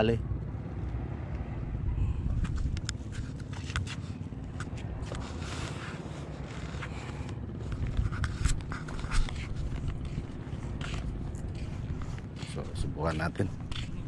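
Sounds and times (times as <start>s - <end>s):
wind rumble on microphone: 0.0s - 14.0s
fishing line scraping: 2.6s - 14.0s.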